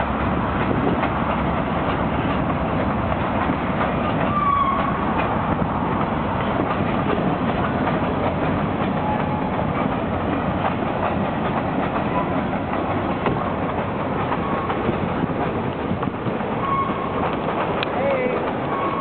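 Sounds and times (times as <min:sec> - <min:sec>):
freight train rumbling past: 0:00.0 - 0:19.0
wheels clicking over rail joints: 0:00.0 - 0:19.0.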